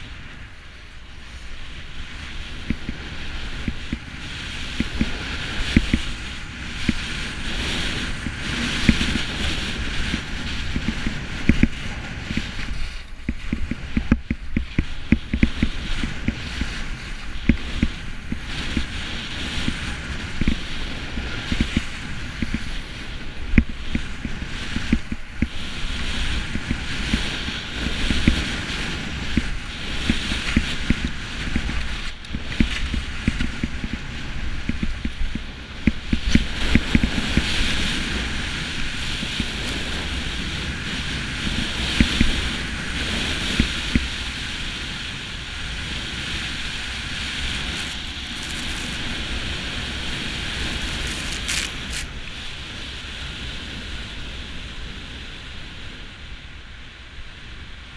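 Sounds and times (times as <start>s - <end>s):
skis sliding on snow: 0.0s - 55.8s
wind buffeting microphone: 0.0s - 57.9s.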